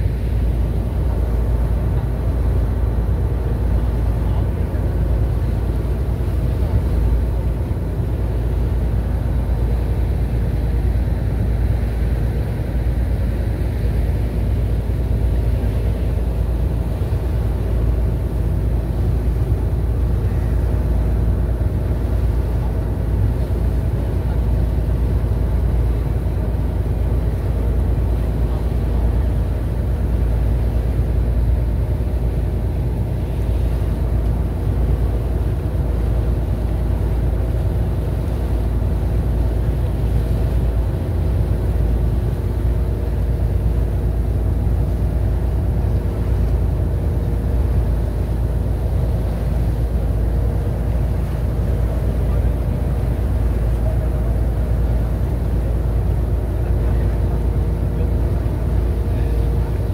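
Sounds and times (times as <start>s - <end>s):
ferry engine drone: 0.0s - 59.9s
water rushing along hull: 0.0s - 59.9s.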